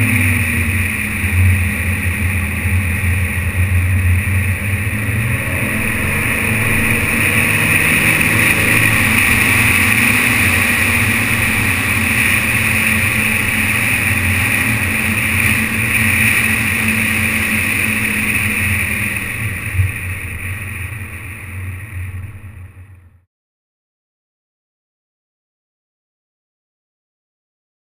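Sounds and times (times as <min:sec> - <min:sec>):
muffled road and wind noise: 0:00.0 - 0:23.2.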